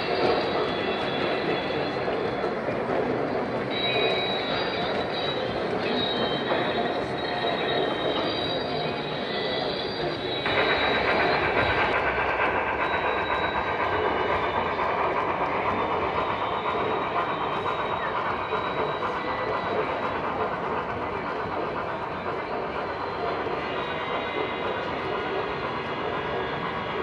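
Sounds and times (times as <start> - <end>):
model train wheels clattering: 0.0 - 27.0.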